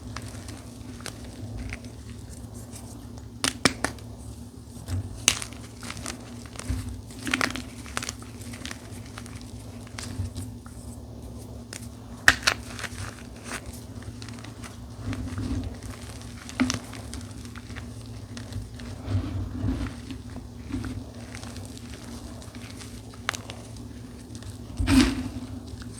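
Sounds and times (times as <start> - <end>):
chalk being crushed: 4.7 - 25.9.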